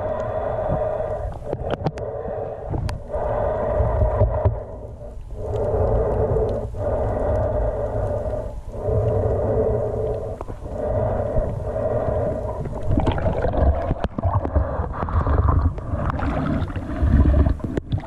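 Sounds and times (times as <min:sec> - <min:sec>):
muffled underwater water rushing: 0:00.0 - 0:18.0.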